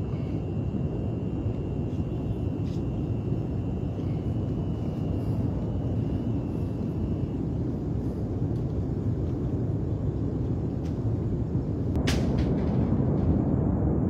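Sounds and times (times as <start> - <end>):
volcano low rumble: 0.0 - 14.0.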